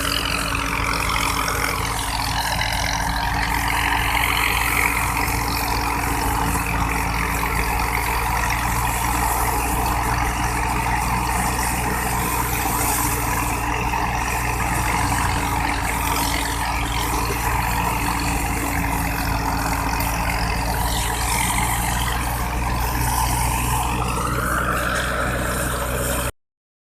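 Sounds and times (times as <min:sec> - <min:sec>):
threshing machinery rushing: 0:00.0 - 0:26.3
tractor engine drone: 0:00.0 - 0:26.4.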